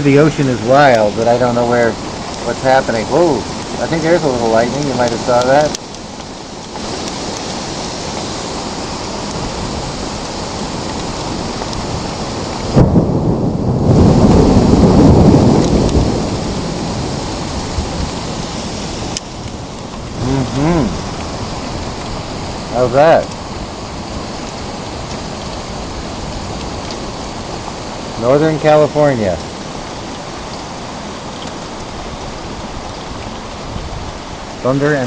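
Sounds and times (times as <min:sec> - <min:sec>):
hard rain pouring: 0:00.0 - 0:35.0
thunder rumbling: 0:00.0 - 0:35.0.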